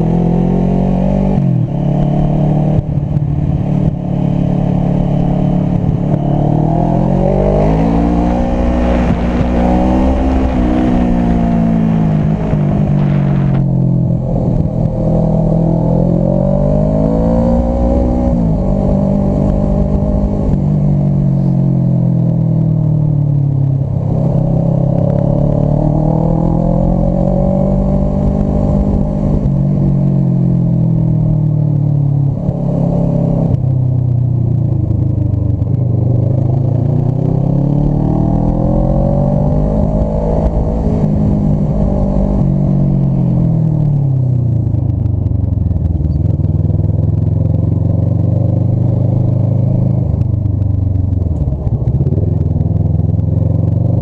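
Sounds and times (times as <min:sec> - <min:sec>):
low rumble: 0:00.0 - 0:54.0
motorcycle engine running: 0:00.0 - 0:54.0.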